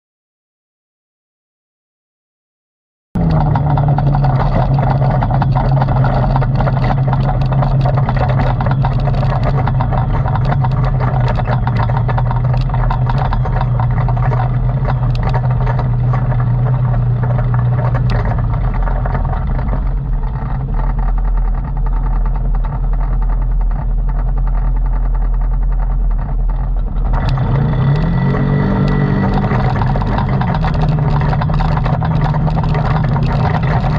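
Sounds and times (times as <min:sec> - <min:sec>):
atv engine running: 0:03.2 - 0:33.9.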